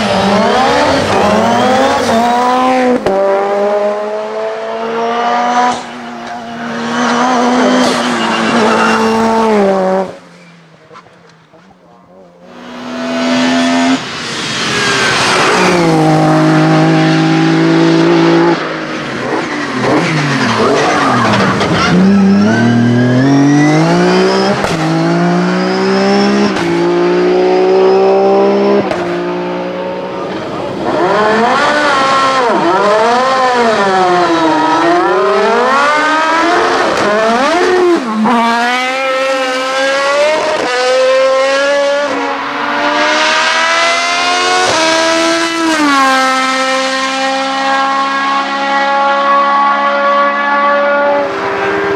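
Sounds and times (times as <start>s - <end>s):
formula car engine revving: 0.0s - 10.2s, 12.4s - 51.9s
race car accelerating through upshifts: 0.0s - 10.2s, 12.4s - 51.9s.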